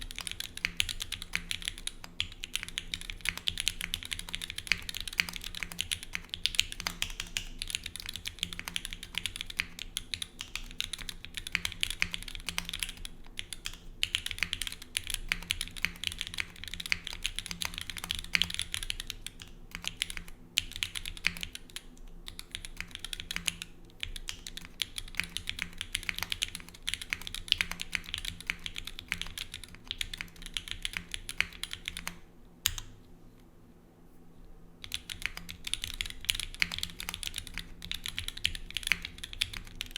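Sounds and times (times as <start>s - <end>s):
mechanical keyboard typing: 0.0s - 32.9s, 34.8s - 39.9s.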